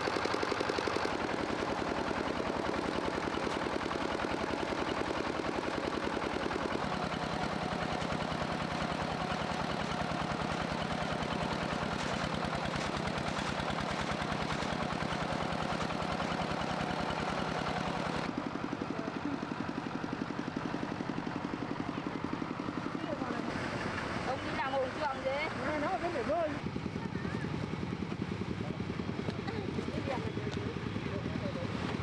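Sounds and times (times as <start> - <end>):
small engine chugging: 0.0 - 32.0.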